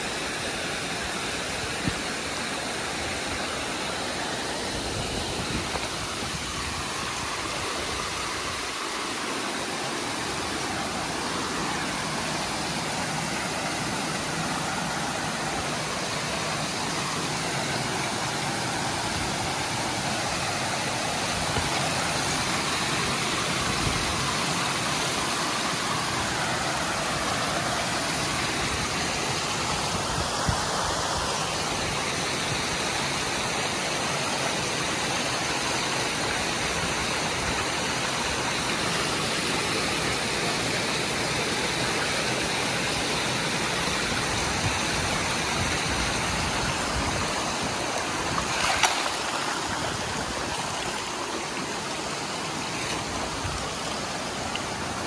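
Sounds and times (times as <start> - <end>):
water splashing over boulders: 0.7 - 55.0.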